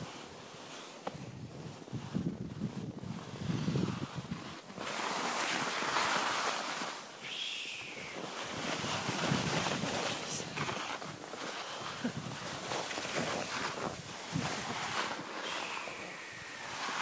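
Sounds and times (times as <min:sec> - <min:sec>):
skis scraping over hard snow: 0:00.0 - 0:17.0
wind noise on microphone: 0:01.1 - 0:17.0.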